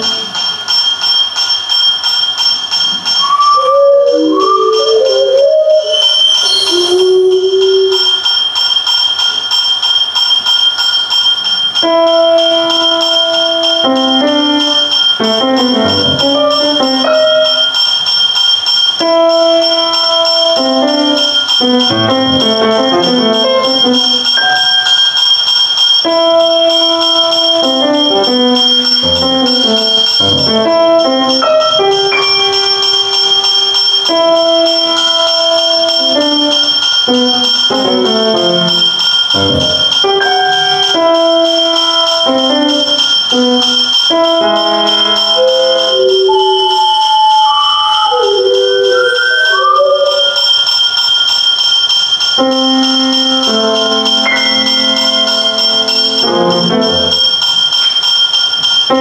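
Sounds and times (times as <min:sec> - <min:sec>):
bell-like electronic notes: 0:00.0 - 0:59.0
held high electronic tones: 0:03.0 - 0:08.5, 0:11.8 - 0:18.1, 0:19.0 - 0:25.4, 0:26.0 - 0:50.5, 0:52.4 - 0:57.6.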